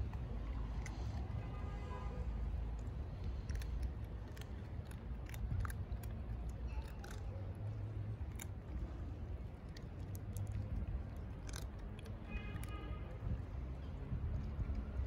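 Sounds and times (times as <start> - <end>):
cats crunching dry kibble: 0.0 - 1.6, 2.4 - 15.0
steady low rumble: 2.2 - 15.0.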